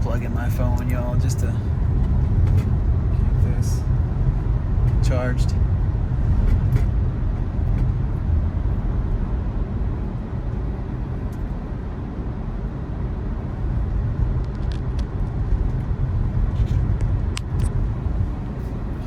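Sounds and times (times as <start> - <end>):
road and tyre rumble in car: 0.0 - 19.0.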